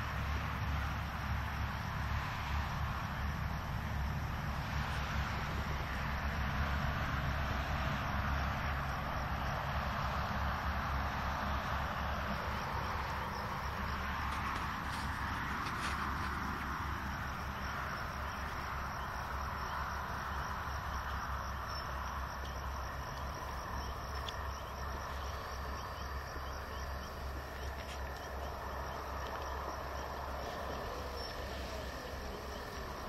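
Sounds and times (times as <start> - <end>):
distant diesel engine hum: 0.0 - 33.0.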